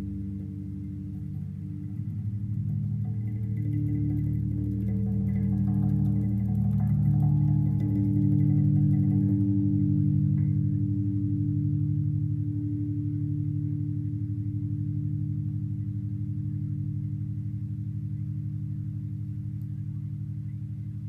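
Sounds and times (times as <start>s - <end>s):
electric bass chord ringing: 0.0s - 20.9s.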